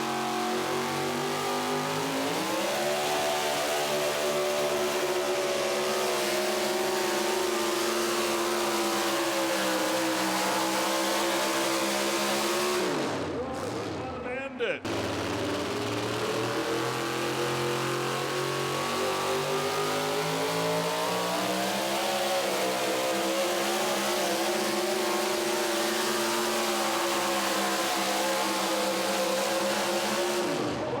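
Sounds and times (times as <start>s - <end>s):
truck engine revving under load: 0.0s - 14.0s, 14.8s - 31.0s.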